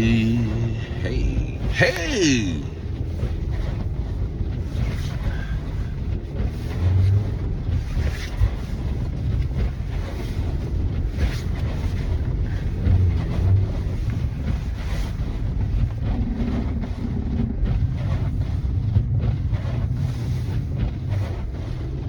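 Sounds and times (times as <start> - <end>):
car driving through snow: 0.0 - 22.0.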